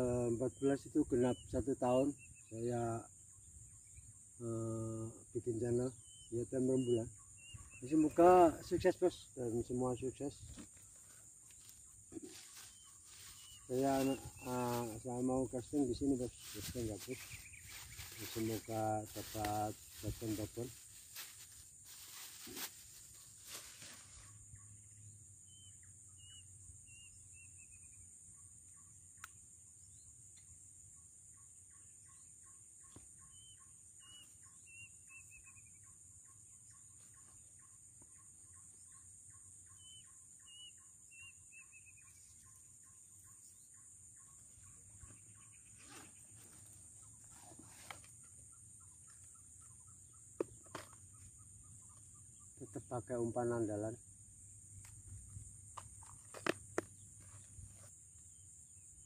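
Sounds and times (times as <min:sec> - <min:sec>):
faint bird chirps: 0:00.0 - 0:59.0
high insect drone: 0:00.0 - 0:59.0.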